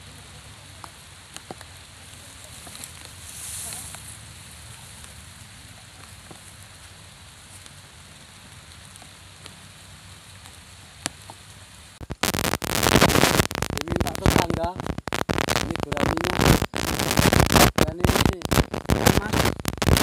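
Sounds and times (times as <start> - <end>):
rain falling on a pond: 0.0 - 20.0.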